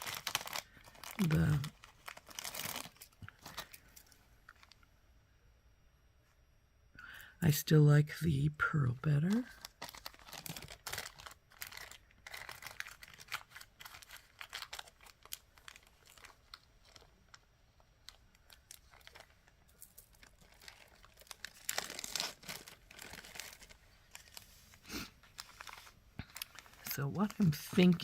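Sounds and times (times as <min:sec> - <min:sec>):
plastic packaging crinkling: 0:00.0 - 0:04.8, 0:09.2 - 0:28.0.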